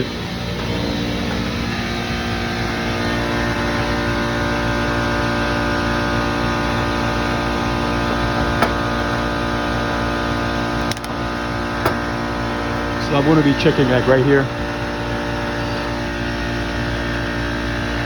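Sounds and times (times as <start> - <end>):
hvac equipment humming: 0.0 - 18.0.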